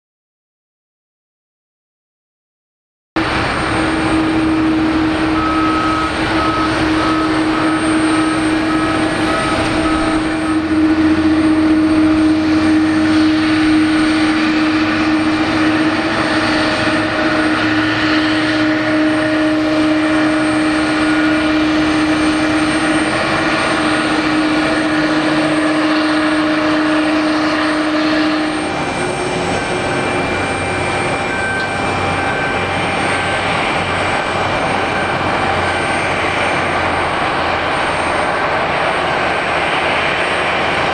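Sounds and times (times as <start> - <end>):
constant engine whine: 3.2 - 40.9
jet engines running: 3.2 - 40.9.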